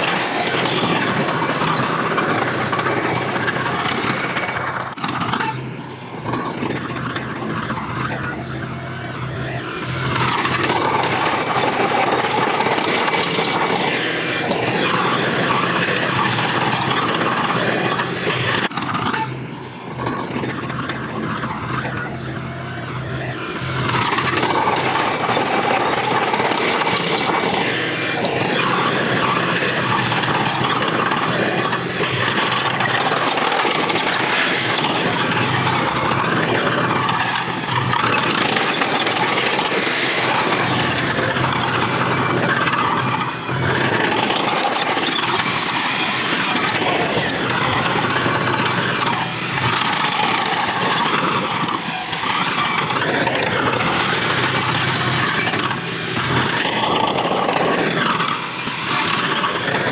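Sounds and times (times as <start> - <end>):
heavy machinery diesel engines running: 0.0 - 59.9.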